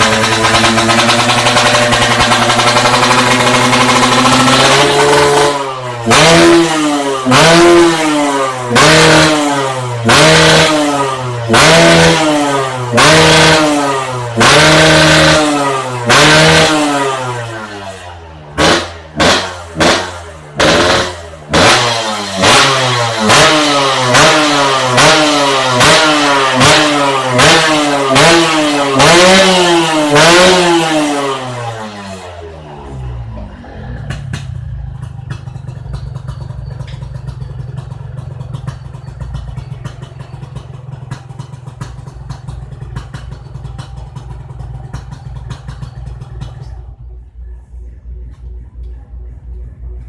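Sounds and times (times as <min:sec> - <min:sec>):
two-stroke engine revving: 0:00.0 - 0:46.7.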